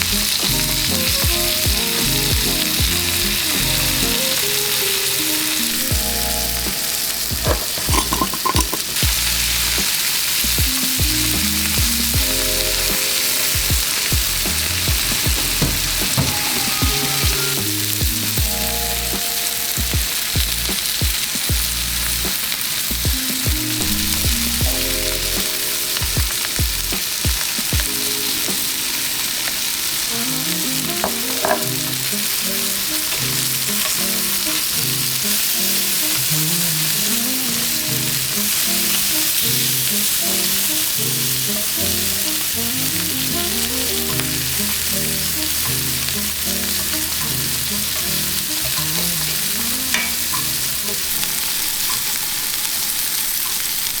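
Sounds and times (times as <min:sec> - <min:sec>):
background music: 0:00.0 - 0:53.8
food sizzling in frying pan: 0:00.0 - 0:54.0.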